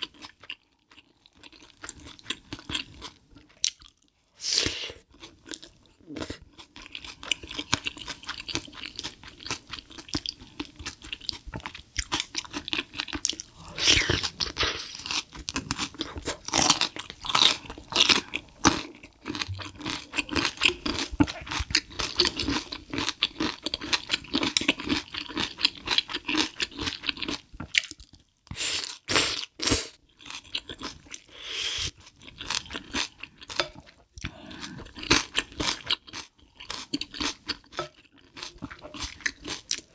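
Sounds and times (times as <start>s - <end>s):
chewing with crisp crunches: 0.0s - 4.2s, 5.0s - 39.9s.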